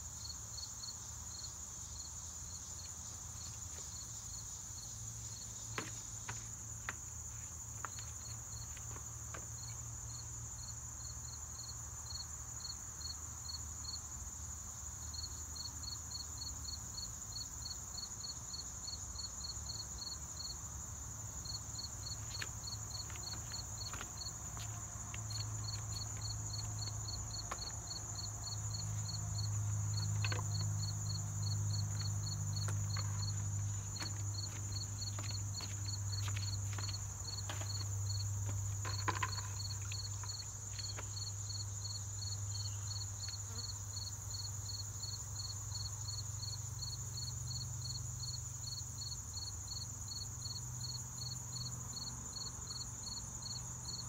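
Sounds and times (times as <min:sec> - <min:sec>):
cricket chirping: 0:00.0 - 0:54.0
insects high buzz: 0:00.0 - 0:54.0.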